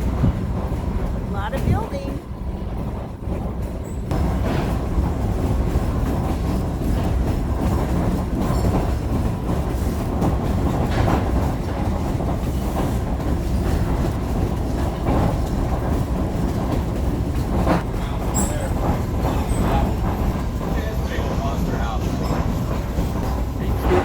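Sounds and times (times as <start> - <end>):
train wheels rumbling on rails: 0.0 - 24.0
wheel clacks on track: 0.0 - 24.0.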